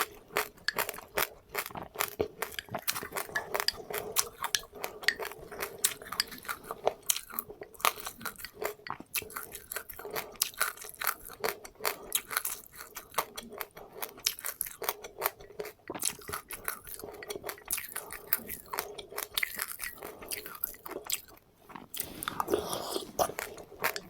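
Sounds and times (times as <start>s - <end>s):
person chewing crunchy seeds: 0.0s - 24.0s.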